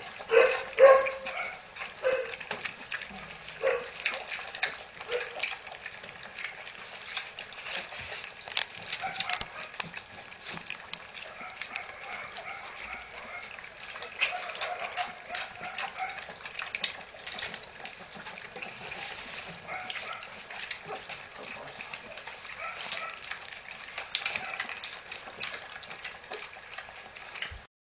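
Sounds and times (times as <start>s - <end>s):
puppies lapping food: 0.0s - 27.7s.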